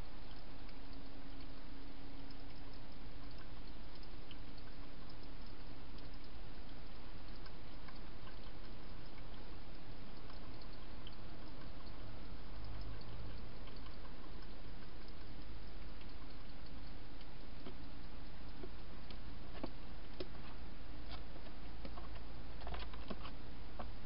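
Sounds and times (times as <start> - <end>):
faint ticks: 0.0 - 24.0.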